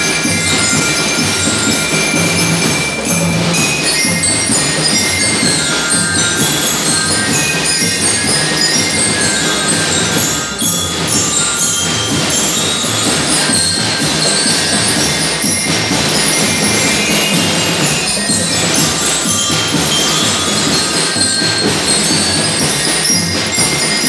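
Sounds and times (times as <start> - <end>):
bell lyres playing a tune: 0.0 - 24.0
marching snare and bass drums: 0.0 - 24.0.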